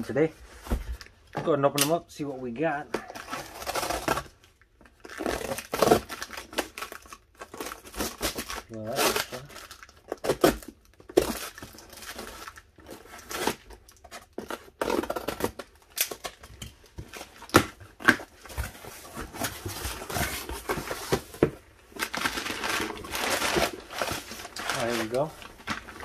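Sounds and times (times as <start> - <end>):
packing paper rustling: 3.0 - 26.0
packing tape tearing: 4.9 - 26.0.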